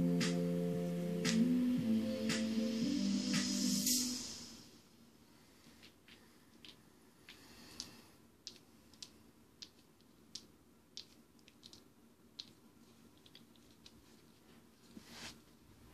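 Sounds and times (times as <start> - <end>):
faint hum: 0.0 - 15.9.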